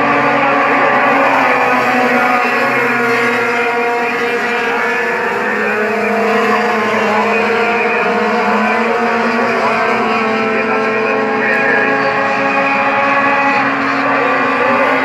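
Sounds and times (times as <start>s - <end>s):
racing truck engines droning: 0.0s - 15.0s.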